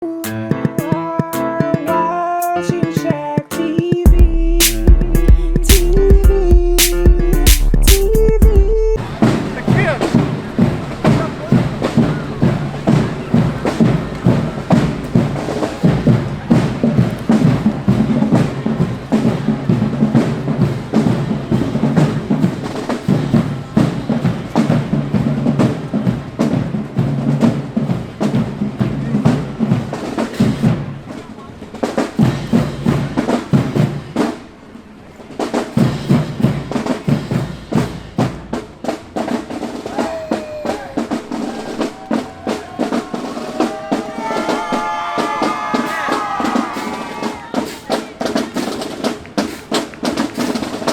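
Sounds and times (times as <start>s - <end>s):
marching band playing: 0.3s - 50.9s
snare and bass drums: 3.9s - 34.5s, 35.3s - 50.9s.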